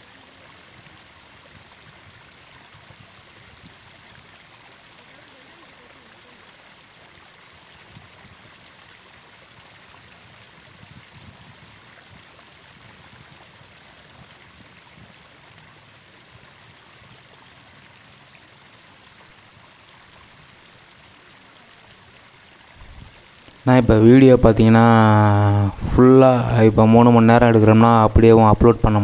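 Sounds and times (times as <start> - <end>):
faint river water washing: 0.0 - 29.0.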